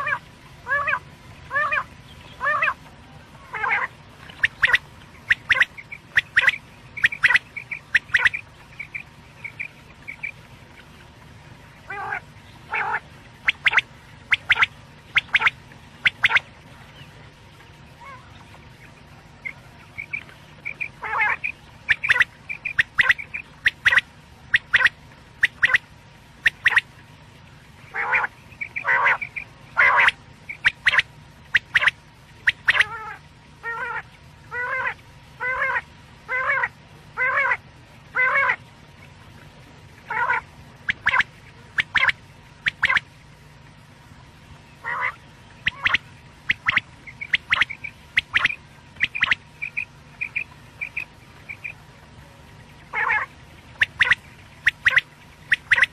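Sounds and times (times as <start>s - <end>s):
quail calling: 0.0s - 2.8s, 3.5s - 10.4s, 11.8s - 16.5s, 19.4s - 26.9s, 27.9s - 38.6s, 40.1s - 43.1s, 44.8s - 51.8s, 52.9s - 55.9s.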